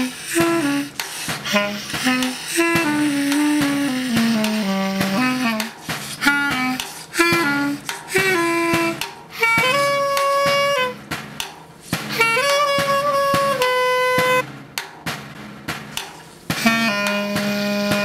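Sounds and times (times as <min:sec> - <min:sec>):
solo clarinet: 0:00.0 - 0:11.0, 0:12.1 - 0:14.4, 0:16.6 - 0:18.0
snare drum taps: 0:00.0 - 0:18.0.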